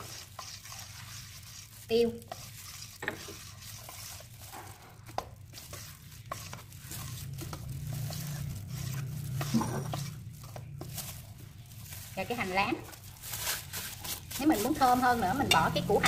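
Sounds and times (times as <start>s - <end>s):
utensil stirring batter in bowl: 0.0s - 16.0s.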